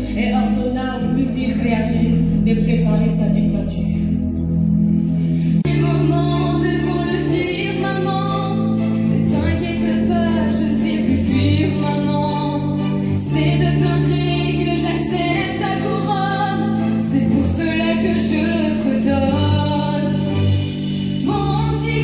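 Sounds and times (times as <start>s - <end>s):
held bass notes: 0.0s - 22.0s
ensemble singing together: 4.0s - 22.0s.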